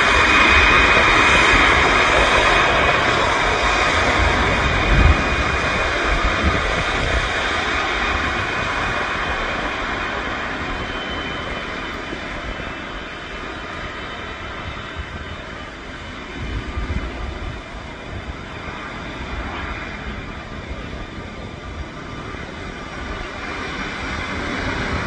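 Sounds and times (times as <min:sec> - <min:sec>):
jet engines roaring with whine: 0:00.0 - 0:25.0
low rumble gusts: 0:00.0 - 0:25.0.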